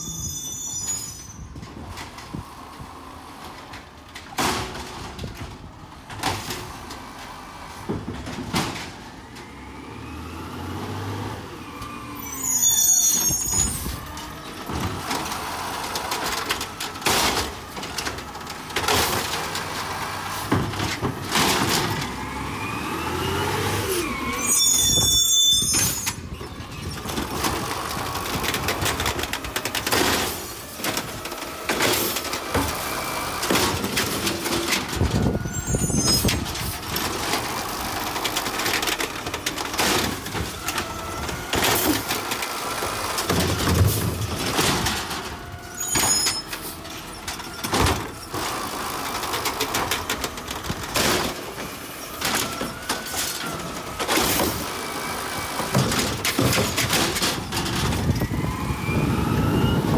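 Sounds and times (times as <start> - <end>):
brakes squealing: 0.0 - 3.6, 9.2 - 59.9
garbage truck diesel engine: 0.0 - 59.9.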